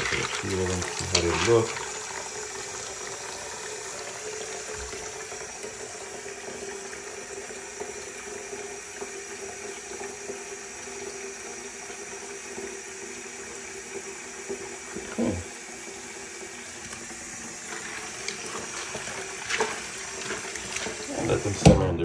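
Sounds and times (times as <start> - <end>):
water running: 0.0 - 22.0.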